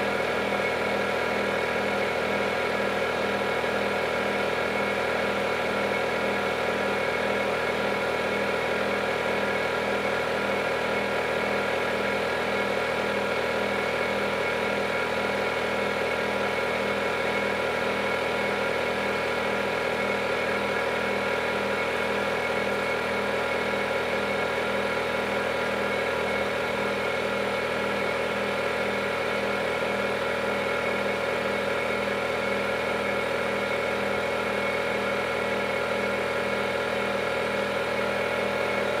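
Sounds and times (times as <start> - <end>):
washing machine motor hum: 0.0 - 39.0.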